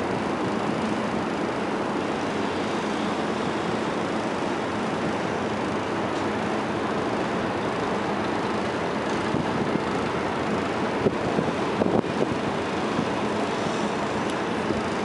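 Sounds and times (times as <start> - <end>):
diesel locomotive running: 0.0 - 15.0.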